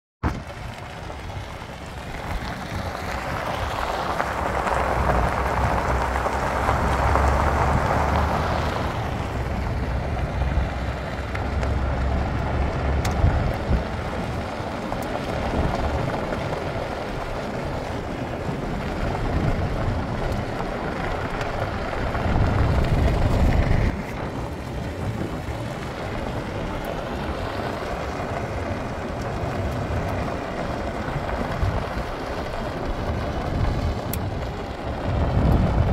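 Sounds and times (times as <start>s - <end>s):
car tyres crunching on gravel: 0.2s - 35.9s
wind on microphone: 0.2s - 35.9s.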